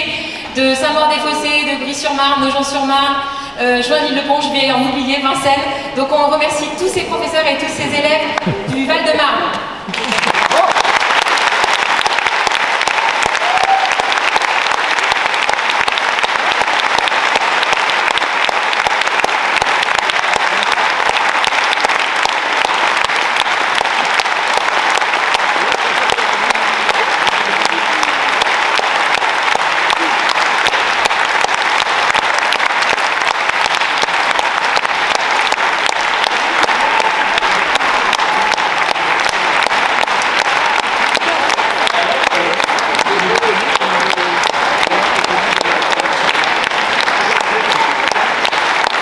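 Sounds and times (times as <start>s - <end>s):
audience applauding: 6.7s - 49.0s.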